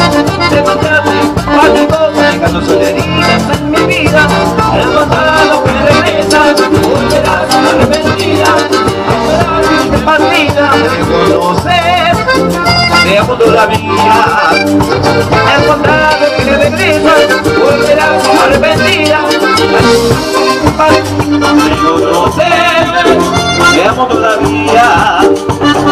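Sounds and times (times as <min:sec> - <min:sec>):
bass: 0:00.0 - 0:25.9
keyboard lines: 0:00.0 - 0:25.9
percussion with shakers: 0:00.0 - 0:25.9.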